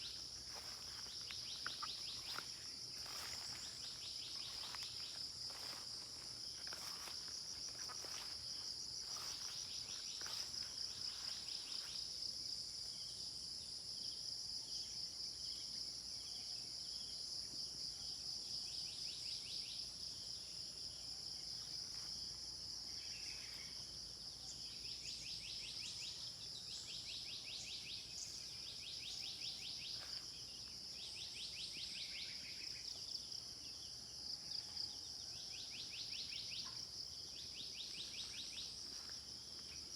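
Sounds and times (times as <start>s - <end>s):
insect chirping and trilling: 0.0s - 39.9s
insect chorus drone: 0.0s - 39.9s.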